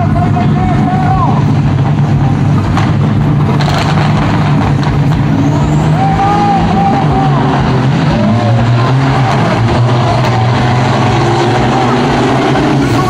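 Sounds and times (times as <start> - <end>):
diesel trucks accelerating: 0.0 - 13.0.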